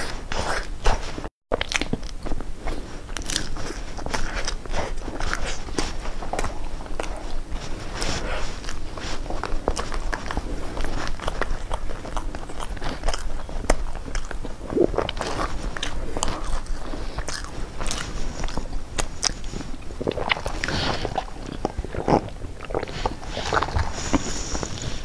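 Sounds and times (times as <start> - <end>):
pastry crackling and crunching: 0.1 - 25.0.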